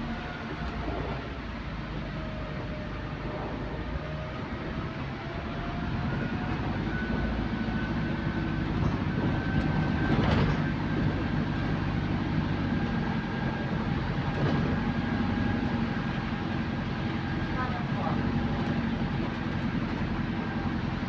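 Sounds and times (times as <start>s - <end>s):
rumble of tyres on road: 0.0s - 21.0s.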